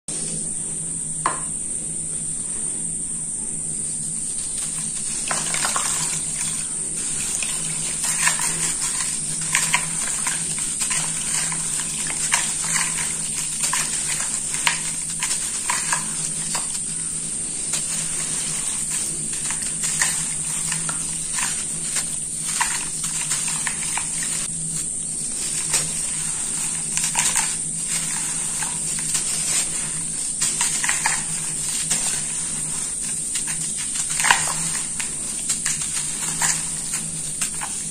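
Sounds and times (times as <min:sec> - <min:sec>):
gritty crunching of crumbling lump: 0:04.1 - 0:37.9
crumbs splashing into water: 0:04.4 - 0:24.5, 0:25.3 - 0:37.9.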